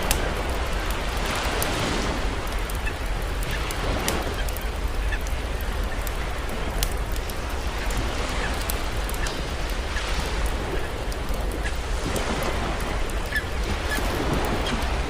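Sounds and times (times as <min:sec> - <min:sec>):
campfire crackling and popping: 0:00.0 - 0:15.0
sea waves rushing: 0:00.0 - 0:15.0.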